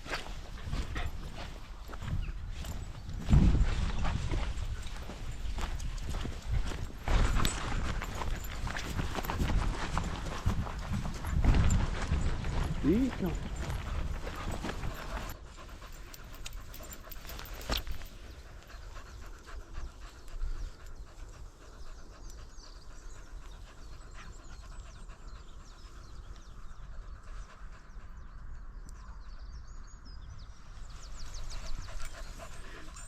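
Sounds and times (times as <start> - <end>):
small dogs panting: 0.0 - 29.8, 30.8 - 33.0.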